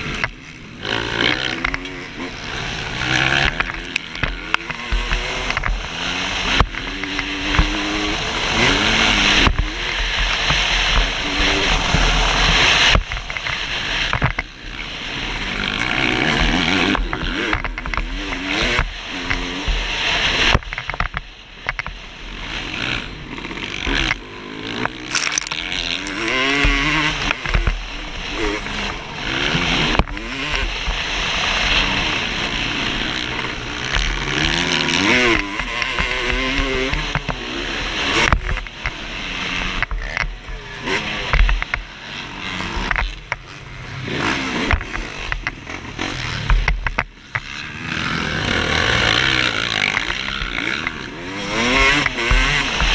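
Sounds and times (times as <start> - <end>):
motocross engine revving: 0.0 - 20.8, 21.8 - 52.9
steady rush of noise: 0.0 - 52.9.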